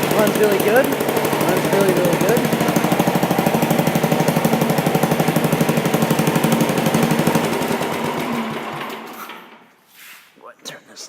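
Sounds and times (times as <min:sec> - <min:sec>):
engine coasting down: 0:00.0 - 0:09.6
single-cylinder engine running: 0:00.0 - 0:09.6.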